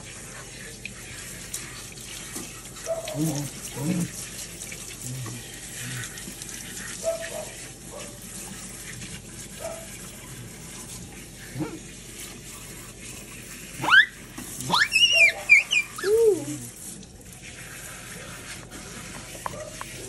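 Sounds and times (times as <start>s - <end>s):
water sprayer spraying: 0.0s - 20.0s.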